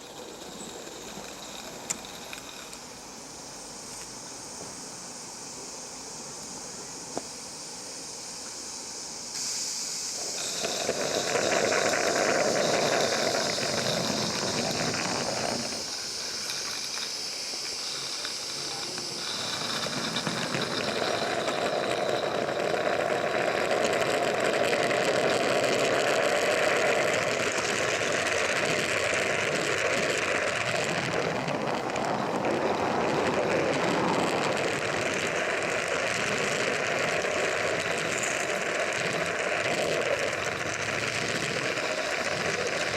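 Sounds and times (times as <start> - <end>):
steam locomotive hissing: 0.0 - 42.9.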